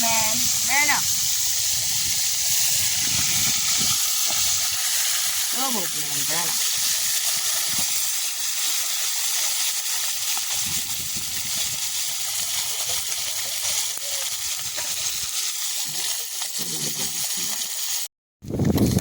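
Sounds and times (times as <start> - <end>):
fish sizzling in hot oil: 0.0 - 18.1.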